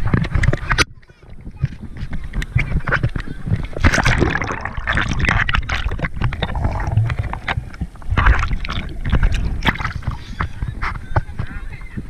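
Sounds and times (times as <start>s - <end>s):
muffled underwater water gurgling: 0.0s - 12.0s.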